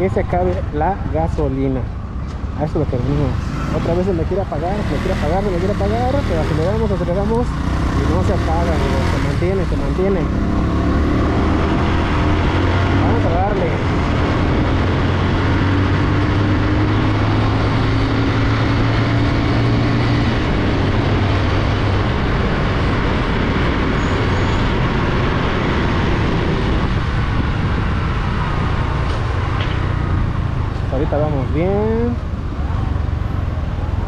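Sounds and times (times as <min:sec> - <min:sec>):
road noise: 0:00.0 - 0:34.0
wind rush on microphone: 0:02.7 - 0:34.0.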